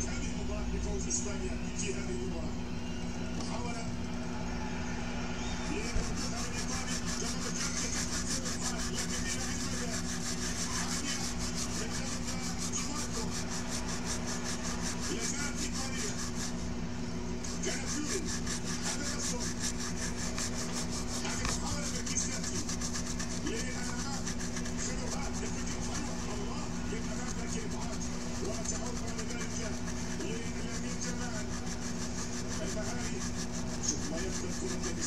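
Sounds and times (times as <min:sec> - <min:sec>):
electrical hum: 0:00.0 - 0:35.0
brush scrubbing circuit board: 0:05.3 - 0:35.0.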